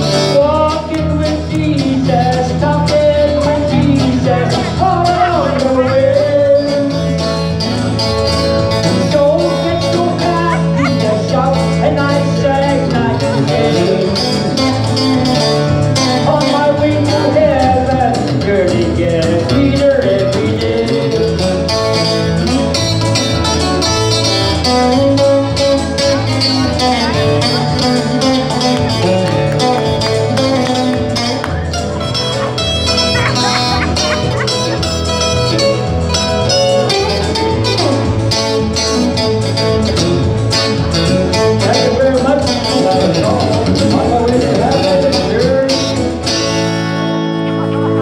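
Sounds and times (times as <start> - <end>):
repeating bass line: 0.0 - 26.2, 27.0 - 46.6
electric guitar: 0.0 - 48.0.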